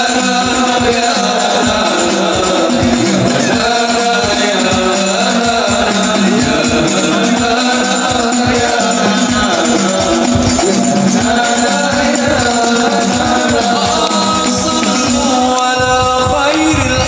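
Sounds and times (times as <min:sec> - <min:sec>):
frame drums and jingles: 0:00.0 - 0:17.0
group singing in unison: 0:00.0 - 0:17.0.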